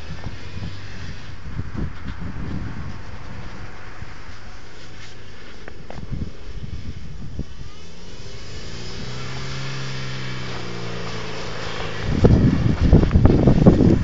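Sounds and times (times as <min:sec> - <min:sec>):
car engine revving: 0:00.0 - 0:14.0
rushing buffeting noise: 0:00.0 - 0:14.0.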